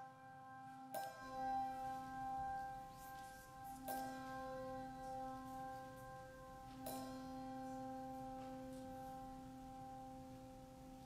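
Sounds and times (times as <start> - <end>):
bell-like notes ringing: 0.0 - 11.0.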